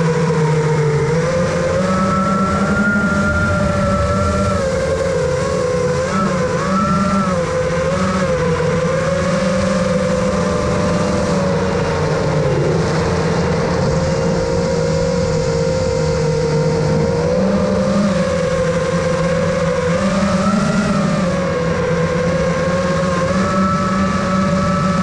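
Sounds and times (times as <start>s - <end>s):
drone motors and propellers whining: 0.0s - 25.0s.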